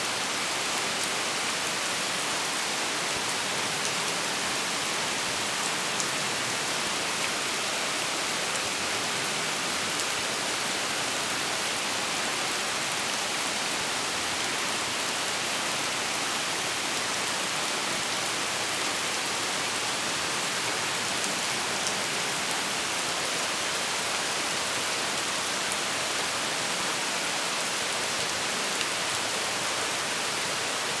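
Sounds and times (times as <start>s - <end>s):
heavy rain on pavement: 0.0s - 31.0s.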